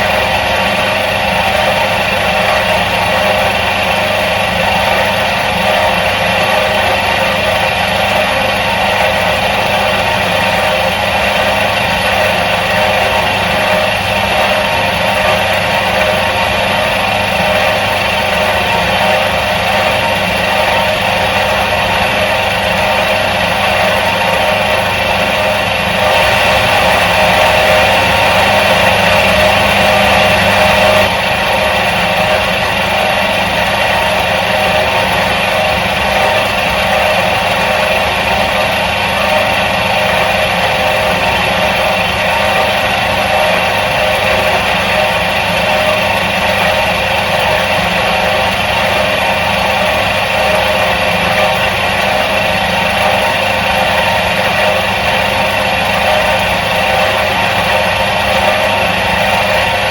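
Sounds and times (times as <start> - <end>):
washing machine motor humming: 0.0 - 59.9.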